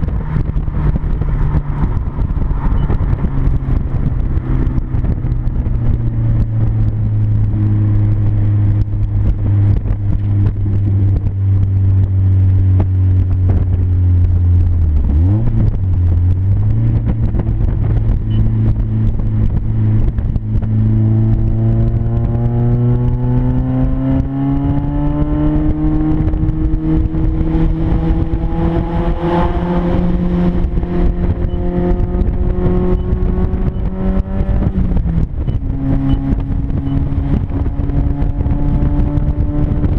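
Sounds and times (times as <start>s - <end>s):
loud raw car engine: 0.0s - 39.9s.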